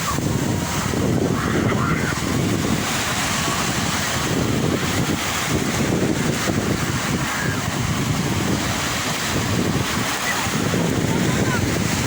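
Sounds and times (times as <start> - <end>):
sea waves washing onto shore: 0.0 - 12.0
wind buffeting microphone: 0.0 - 12.0.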